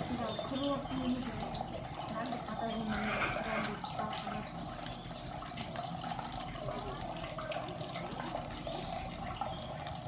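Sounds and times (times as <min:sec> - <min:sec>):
running water splashing: 0:00.0 - 0:10.0
water drips: 0:00.0 - 0:10.0.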